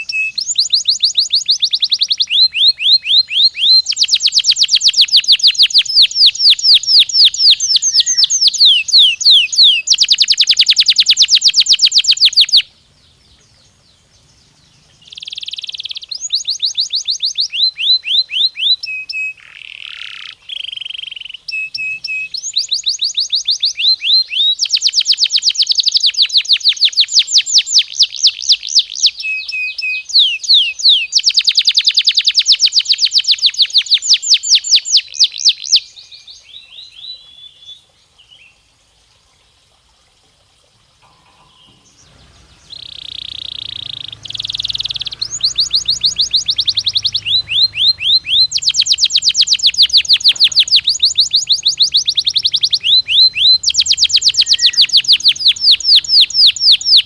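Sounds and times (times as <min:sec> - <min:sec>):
canary singing trills: 0:00.0 - 0:38.6, 0:41.0 - 0:57.0.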